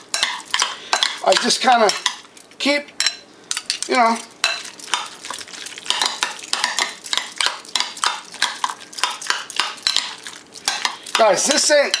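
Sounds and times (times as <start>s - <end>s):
metal spoons clinking in glass bowl: 0.1s - 2.2s, 3.0s - 5.2s, 5.9s - 12.0s.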